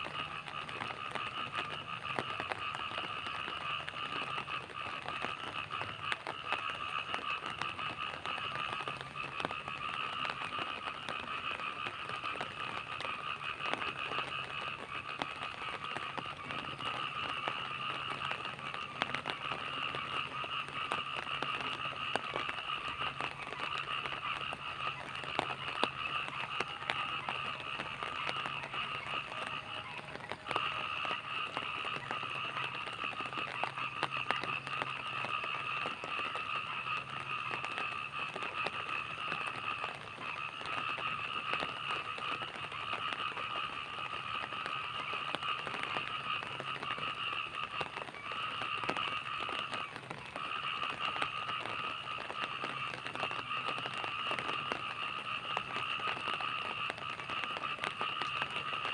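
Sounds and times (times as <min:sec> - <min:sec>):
frogs calling: 0:00.0 - 0:58.9
rain drops ticking: 0:00.0 - 0:58.9.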